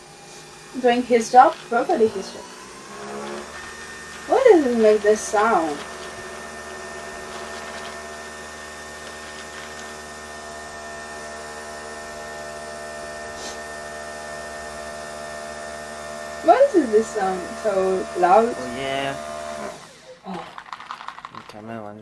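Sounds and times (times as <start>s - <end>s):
coffee machine humming: 0.0s - 21.3s.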